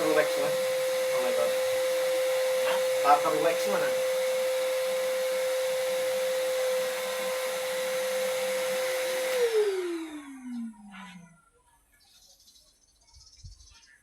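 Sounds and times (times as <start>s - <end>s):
vacuum cleaner motor whine: 0.0s - 11.4s.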